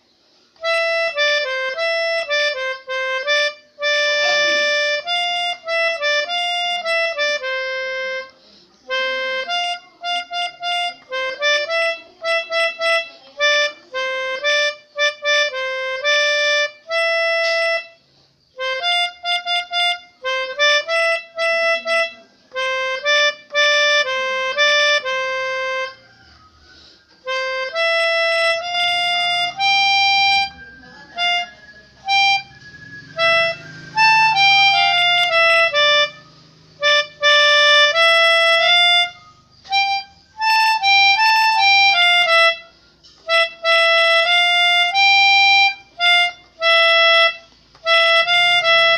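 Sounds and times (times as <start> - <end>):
melodica playing melody: 0.0 - 48.9.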